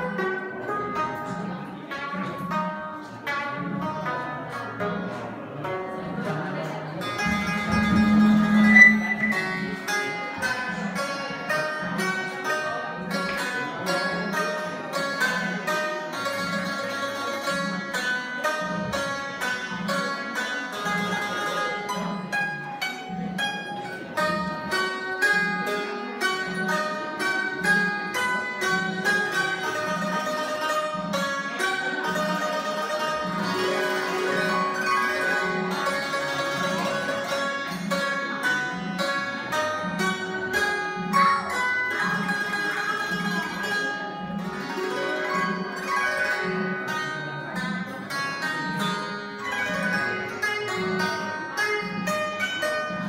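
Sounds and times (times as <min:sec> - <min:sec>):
plucked zither melody: 0:00.0 - 0:53.0.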